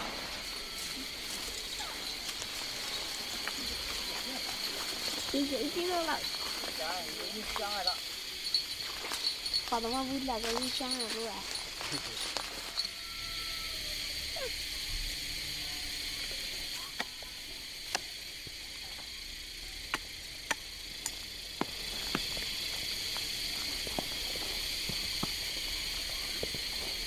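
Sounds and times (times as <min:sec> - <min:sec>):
steady high-pitched hiss: 0:00.0 - 0:27.0.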